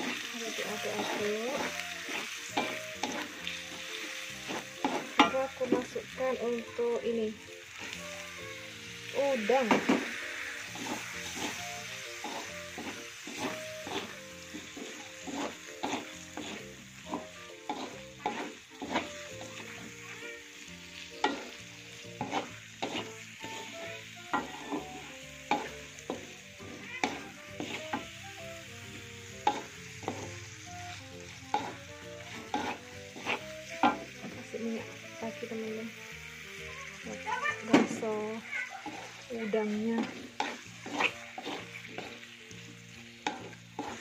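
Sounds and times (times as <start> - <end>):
wooden spatula scraping a wok: 0.0 - 6.1, 7.8 - 35.8, 37.0 - 44.0
hot oil sizzling: 0.0 - 44.0.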